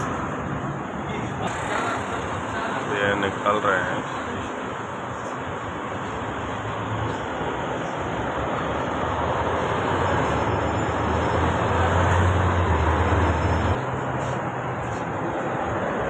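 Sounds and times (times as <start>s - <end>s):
outdoor traffic noise: 0.0s - 16.0s.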